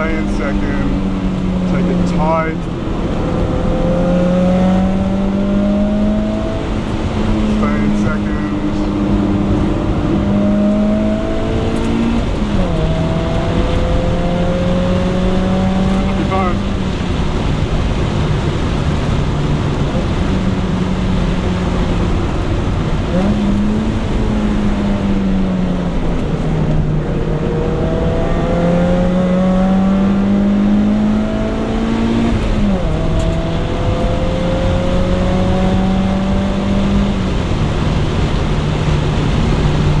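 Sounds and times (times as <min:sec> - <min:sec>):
car engine driven hard: 0:00.0 - 0:40.0.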